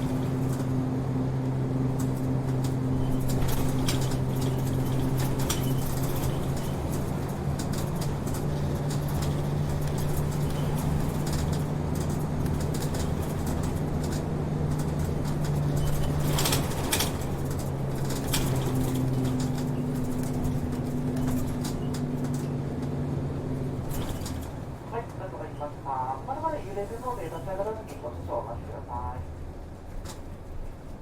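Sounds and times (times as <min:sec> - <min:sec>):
interior rattles and clicks: 0:00.0 - 0:25.8, 0:29.4 - 0:31.0
bus diesel engine running: 0:00.0 - 0:31.0.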